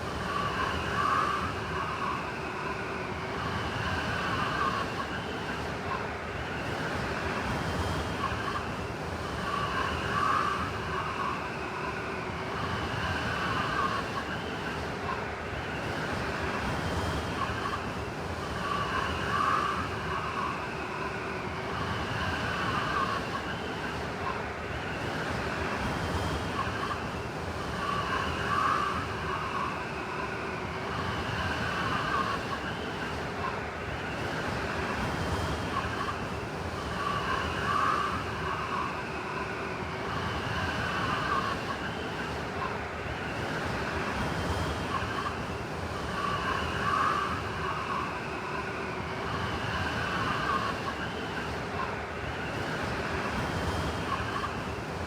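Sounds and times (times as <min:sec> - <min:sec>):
blizzard wind howling: 0:00.0 - 0:55.0.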